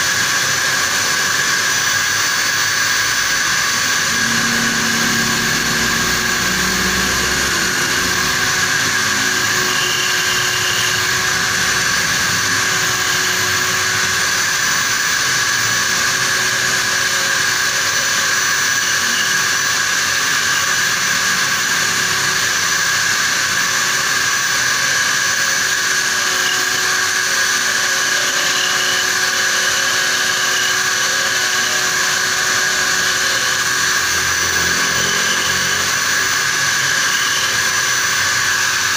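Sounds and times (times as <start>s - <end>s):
electric drill whining: 0.0s - 38.9s
turning tool scraping metal: 0.0s - 38.9s.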